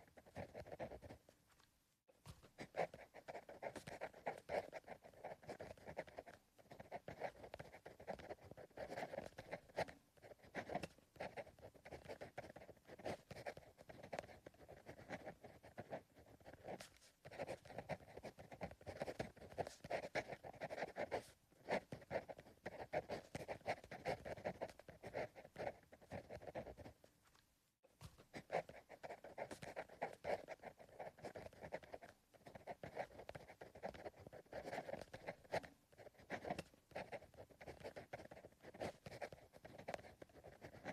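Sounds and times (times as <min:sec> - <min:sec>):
pencil writing on paper: 0:00.0 - 0:01.3, 0:02.2 - 0:27.0, 0:28.0 - 0:40.9.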